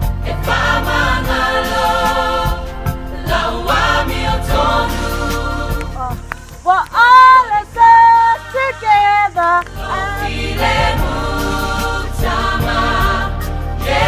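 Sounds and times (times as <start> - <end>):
girls' choir singing: 0.0 - 14.0.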